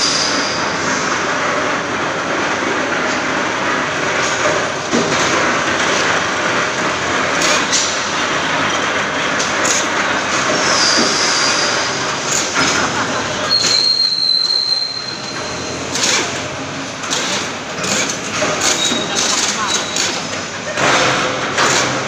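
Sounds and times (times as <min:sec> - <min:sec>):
machinery rushing: 0:00.0 - 0:22.0.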